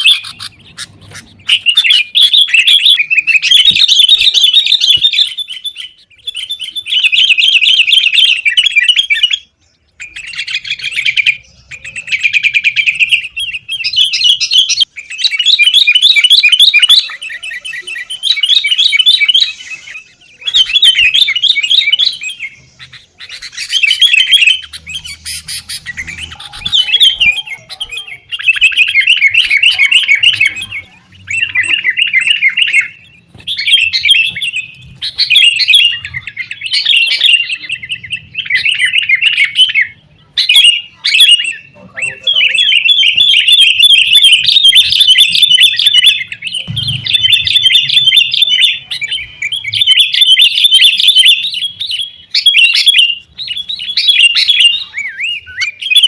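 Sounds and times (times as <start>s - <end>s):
bulbuls chattering calls: 0.0s - 56.0s.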